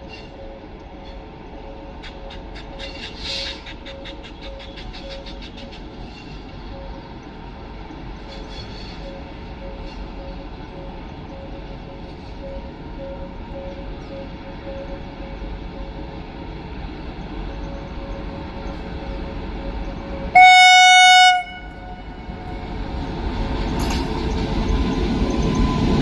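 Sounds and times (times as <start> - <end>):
train coaches rumbling by: 0.0 - 26.0.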